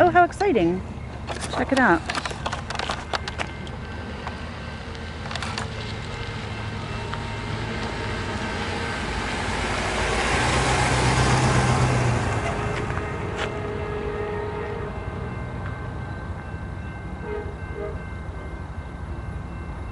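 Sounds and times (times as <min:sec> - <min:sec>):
locomotive engine drone: 0:00.0 - 0:19.9
wheel and rail noise: 0:00.0 - 0:19.9.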